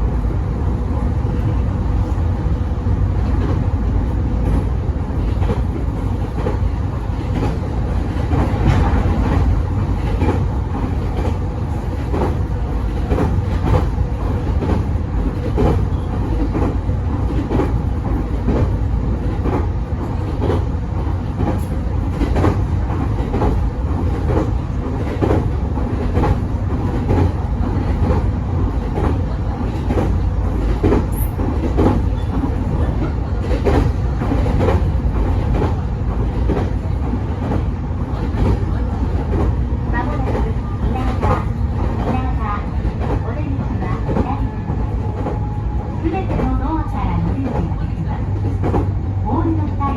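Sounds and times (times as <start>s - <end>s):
train rumbling over rails: 0.0s - 49.9s.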